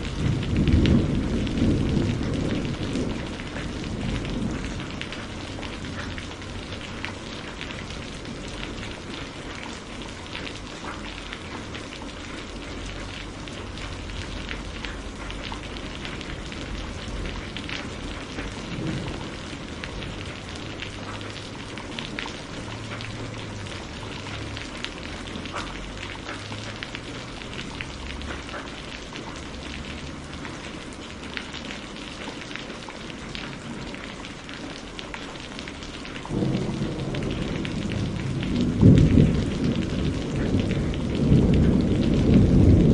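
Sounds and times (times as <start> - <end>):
rain hissing: 0.0 - 42.9
raindrops ticking: 0.0 - 42.9.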